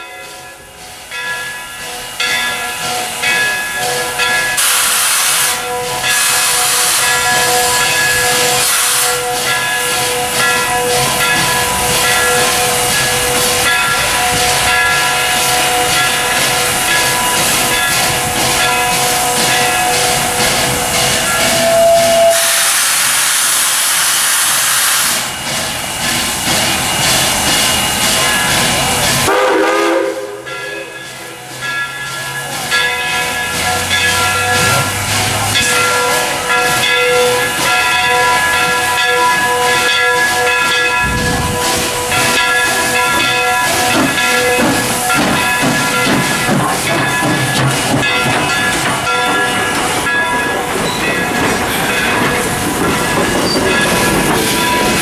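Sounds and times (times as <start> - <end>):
steam locomotive hissing steam: 0.0 - 55.0.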